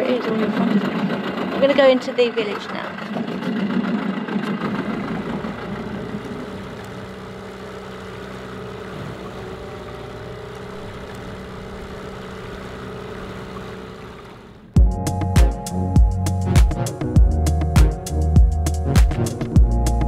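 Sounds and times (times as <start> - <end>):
outboard motor humming: 0.0 - 20.0.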